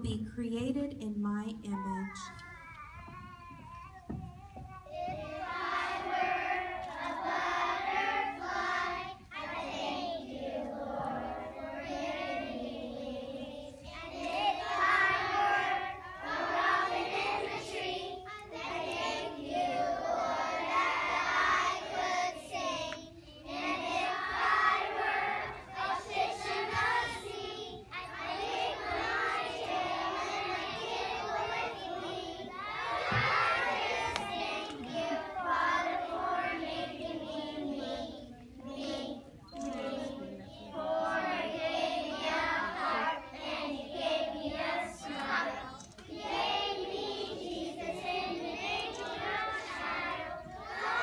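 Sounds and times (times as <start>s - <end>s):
young children singing: 1.8s - 51.0s.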